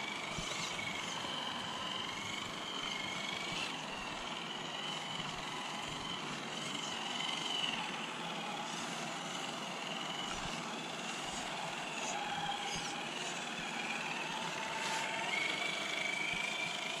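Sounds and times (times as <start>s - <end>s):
electric motors and gears whining: 0.0s - 17.0s
toy trucks driving through sand: 0.0s - 17.0s.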